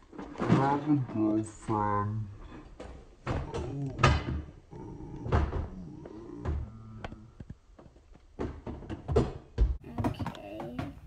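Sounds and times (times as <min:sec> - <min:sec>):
plastic toys knocking and thumping: 0:00.0 - 0:11.0.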